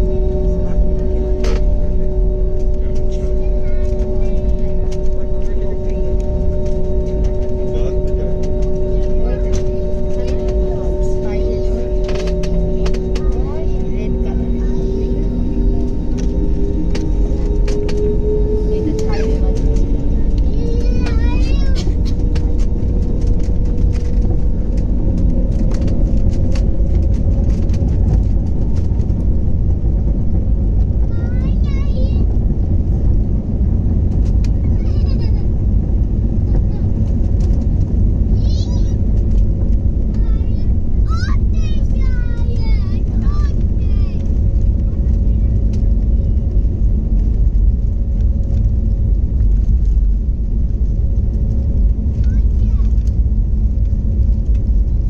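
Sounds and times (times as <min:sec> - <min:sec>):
airliner low rumble: 0:00.0 - 0:55.0
steady hum: 0:00.0 - 0:55.0.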